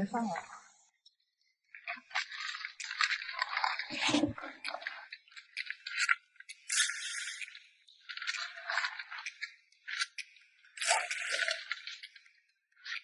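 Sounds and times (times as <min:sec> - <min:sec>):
crabs clattering and scraping: 0:01.8 - 0:13.0.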